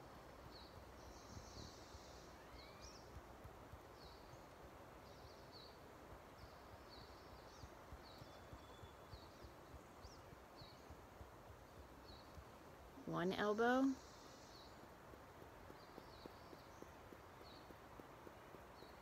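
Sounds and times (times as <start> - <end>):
faint steady hiss: 0.0 - 19.0
small bird chirping: 0.5 - 3.2, 3.9 - 11.0, 13.0 - 19.0.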